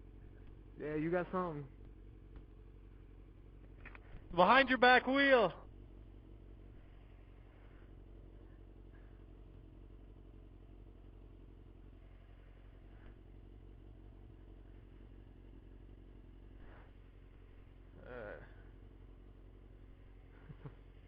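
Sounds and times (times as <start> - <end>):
motorcycle engine running faintly: 0.0 - 21.0.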